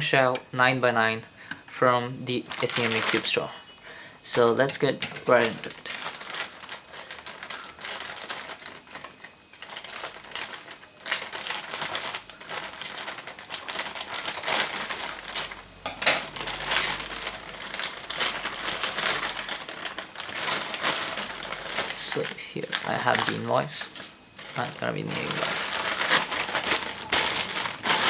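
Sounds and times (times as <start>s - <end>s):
package wrapping crinkling: 2.4s - 3.7s, 4.4s - 28.0s.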